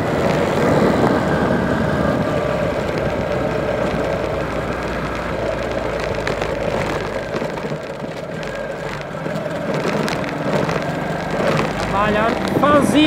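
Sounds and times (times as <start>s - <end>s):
motorcycle engine running: 0.0s - 13.0s
wind and road rumble: 0.0s - 13.0s.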